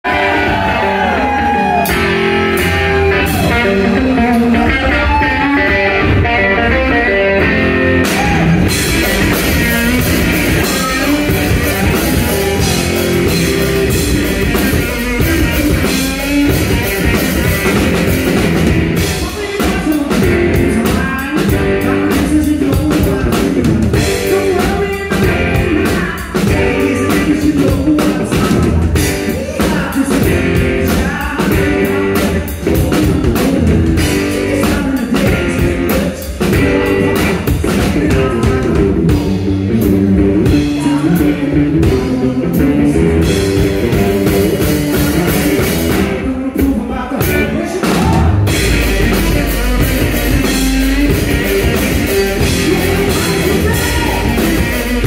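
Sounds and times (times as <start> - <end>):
distorted electric guitar: 0.0 - 55.0
drum kit: 0.0 - 55.0
man singing: 0.0 - 55.0.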